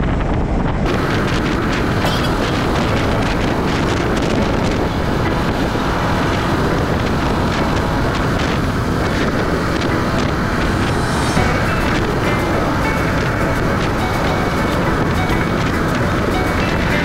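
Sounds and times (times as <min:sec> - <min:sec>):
tyre and wind noise: 0:00.0 - 0:17.0.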